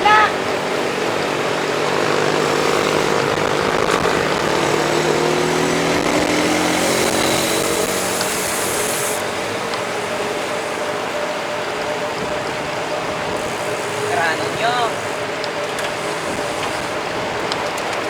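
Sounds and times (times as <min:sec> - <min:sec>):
bike tyres rolling: 0:00.0 - 0:18.0
motor engine hum: 0:00.0 - 0:18.0.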